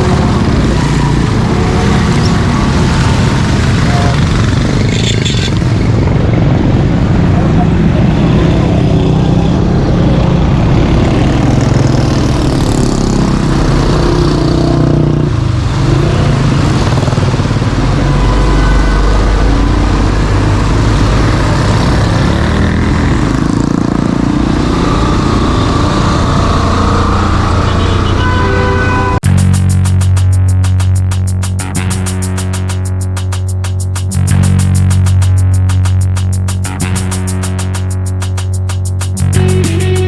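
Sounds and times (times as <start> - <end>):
vehicle engines running: 0.0 - 40.0.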